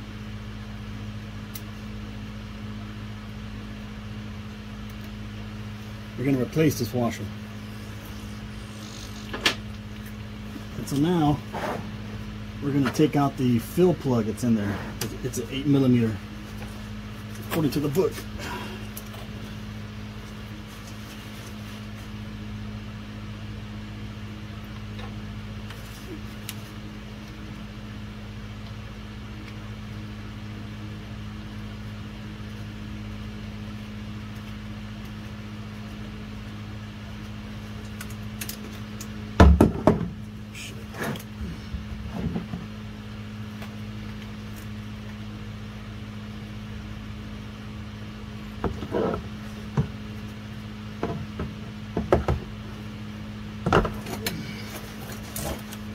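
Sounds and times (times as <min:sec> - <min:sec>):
low hum: 0:00.0 - 0:55.9.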